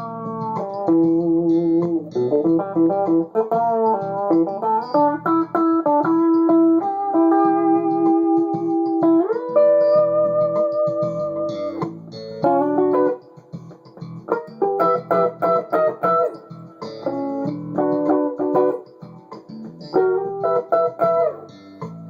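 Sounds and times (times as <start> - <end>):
backing track: 0.0 - 22.0
electric guitar lead: 0.0 - 22.0.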